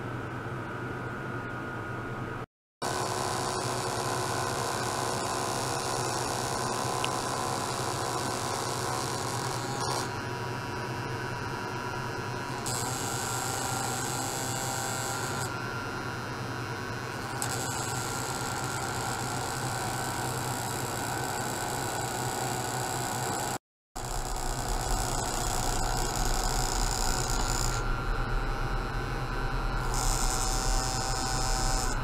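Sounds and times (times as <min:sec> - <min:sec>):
electrical hum and buzz: 0:00.0 - 0:32.0.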